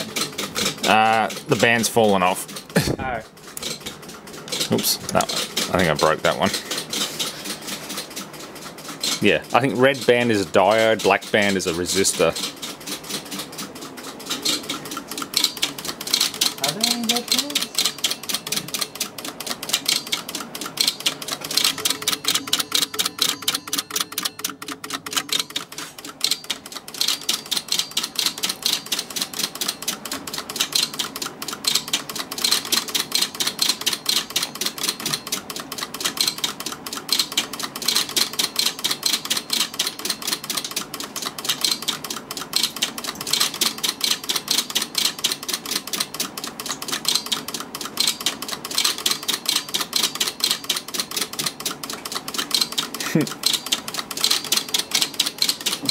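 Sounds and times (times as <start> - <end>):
relays clicking rapidly: 0.0 - 55.9.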